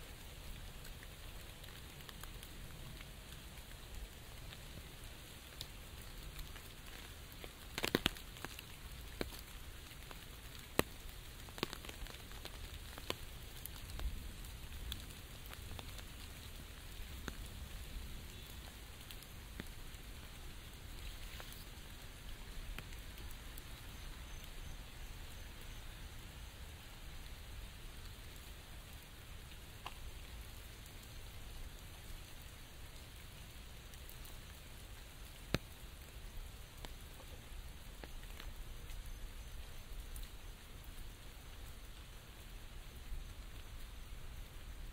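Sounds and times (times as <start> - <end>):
light rain hissing: 0.0 - 44.9.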